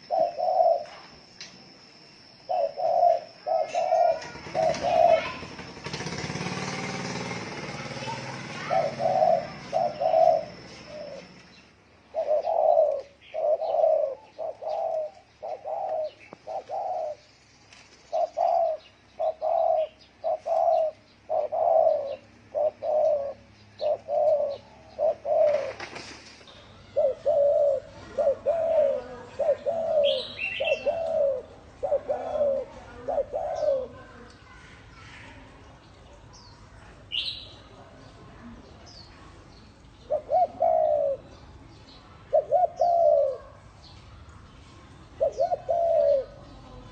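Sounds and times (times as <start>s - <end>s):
dove cooing: 0.0s - 17.4s, 18.0s - 35.4s, 40.0s - 41.4s, 42.1s - 43.8s, 45.1s - 46.9s
bird chirp: 0.0s - 46.9s.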